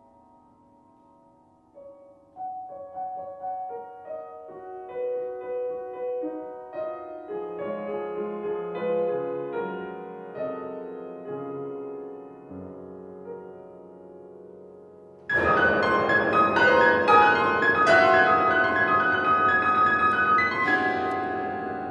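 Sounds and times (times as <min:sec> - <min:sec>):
solo grand piano: 0:00.0 - 0:21.9.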